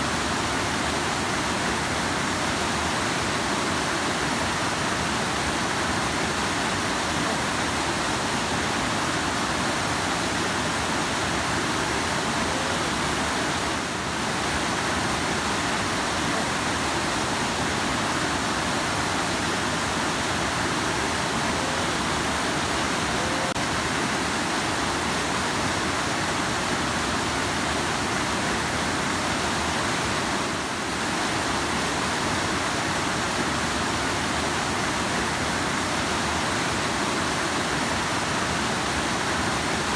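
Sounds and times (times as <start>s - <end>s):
rushing river water: 0.0s - 39.9s.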